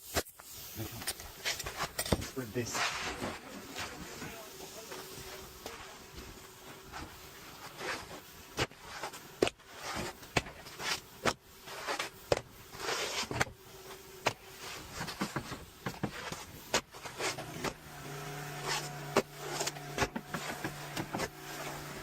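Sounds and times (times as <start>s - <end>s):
shingles rustling and scraping: 0.1s - 22.0s.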